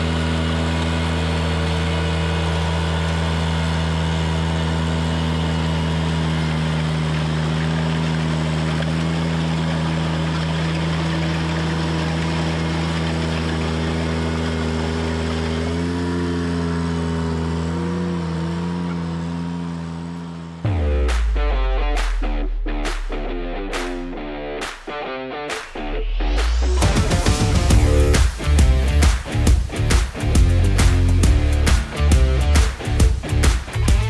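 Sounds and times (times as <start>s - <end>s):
tractor engine running: 0.0s - 25.0s, 25.6s - 34.0s.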